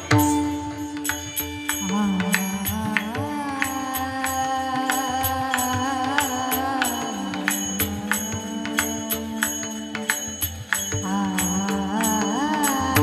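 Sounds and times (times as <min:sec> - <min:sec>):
harmonium drone: 0:00.0 - 0:13.0.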